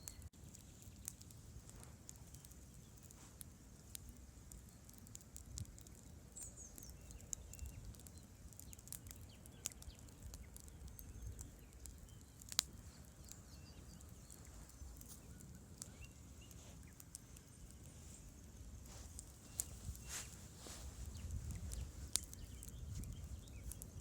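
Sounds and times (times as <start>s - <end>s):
faint bird chirps: 0.0s - 1.3s, 5.7s - 24.0s
campfire crackling: 0.0s - 24.0s
sharp fire snap: 0.0s - 24.0s.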